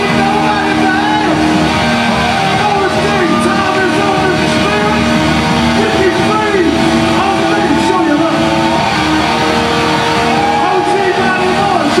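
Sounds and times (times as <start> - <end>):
bass guitar: 0.0 - 12.0
drums: 0.0 - 12.0
keyboards: 0.0 - 12.0.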